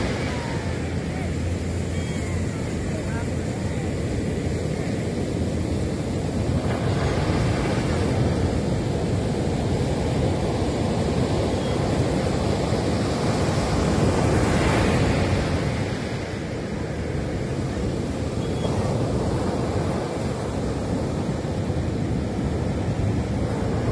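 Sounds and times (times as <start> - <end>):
ocean surf breaking: 0.0 - 23.9.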